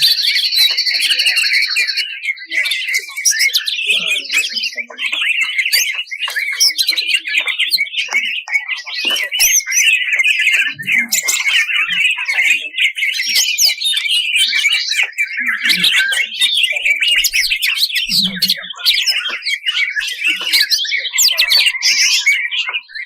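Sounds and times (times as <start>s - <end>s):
bird singing rapid chattering song: 0.0s - 23.0s.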